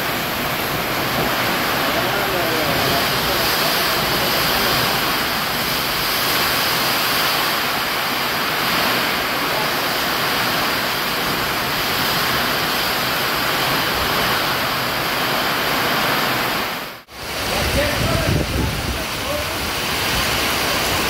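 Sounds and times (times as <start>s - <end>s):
heavy rain downpour: 0.0s - 21.0s
rain on a metal roof: 0.0s - 21.0s.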